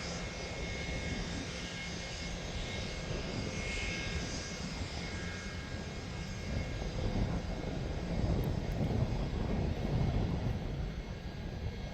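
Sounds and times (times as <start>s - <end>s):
jet engines whining: 0.0s - 11.9s.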